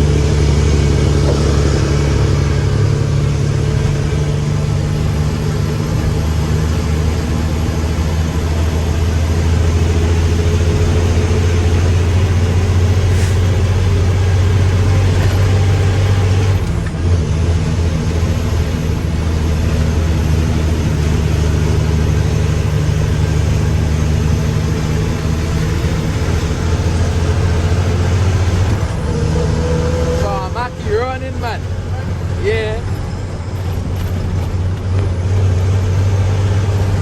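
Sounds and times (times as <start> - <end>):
truck diesel engine under load: 0.0 - 37.0.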